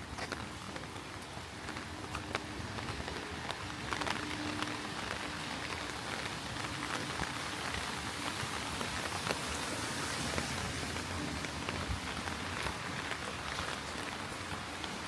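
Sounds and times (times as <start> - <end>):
heavy rain with drop ticks: 0.0 - 15.0.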